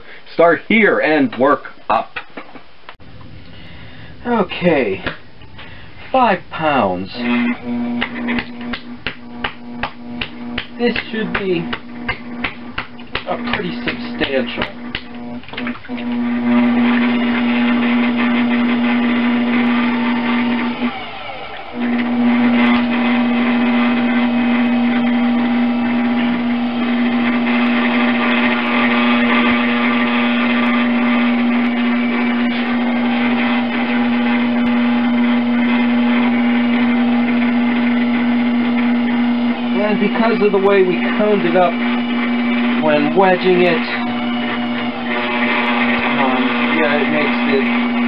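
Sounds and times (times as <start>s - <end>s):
potter's wheel motor humming: 3.0s - 48.0s.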